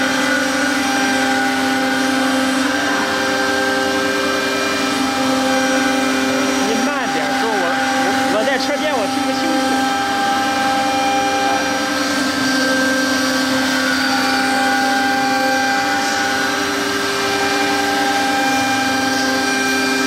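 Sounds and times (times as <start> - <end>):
router spindle whine: 0.0 - 20.0
rushing noise of cutting board: 0.0 - 20.0.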